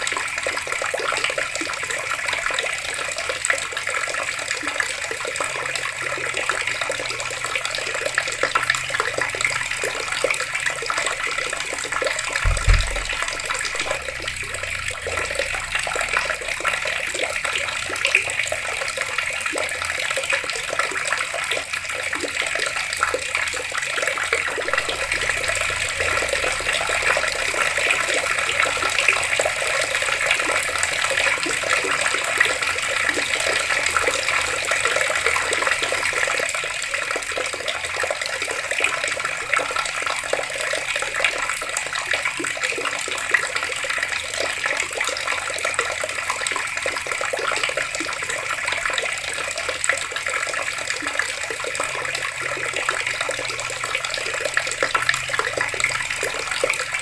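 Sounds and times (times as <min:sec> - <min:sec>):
water running from taps: 0:00.0 - 0:57.0.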